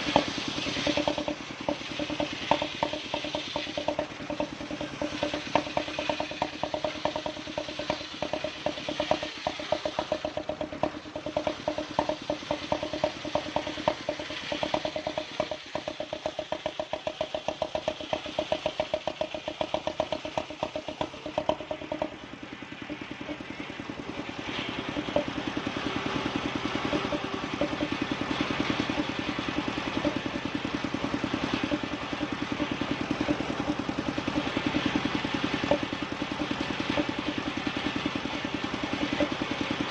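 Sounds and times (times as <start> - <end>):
sawing machine engine running: 0.0 - 39.9.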